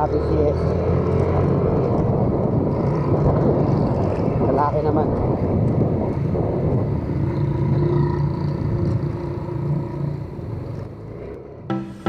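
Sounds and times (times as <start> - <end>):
motorcycle engine cruising: 0.0 - 12.0
road and wind rumble: 0.0 - 12.0.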